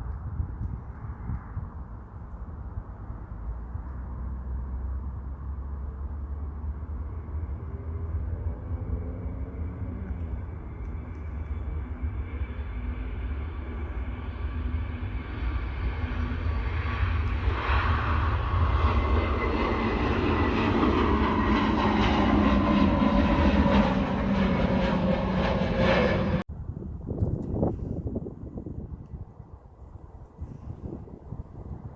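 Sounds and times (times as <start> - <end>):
jet airliner passing: 0.2 - 29.5.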